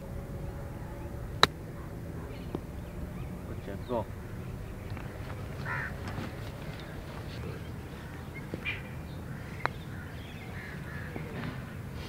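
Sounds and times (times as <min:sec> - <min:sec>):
birds chirping: 0:00.0 - 0:12.0
open-air ambience: 0:00.0 - 0:12.0.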